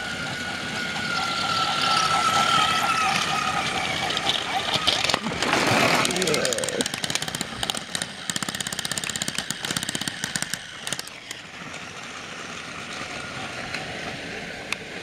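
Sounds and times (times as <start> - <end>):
toy motor whir: 0.0 - 14.5
toy train rapid clicking: 0.0 - 15.0.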